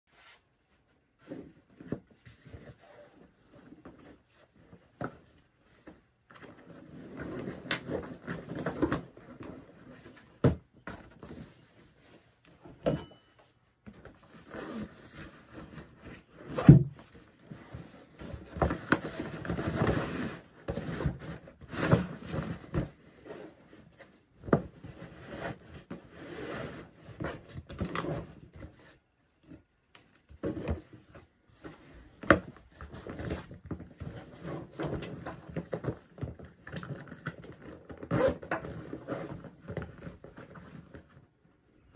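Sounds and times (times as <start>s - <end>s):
backpack and clothing rustling: 0.1s - 13.1s, 13.9s - 29.6s, 30.2s - 41.3s.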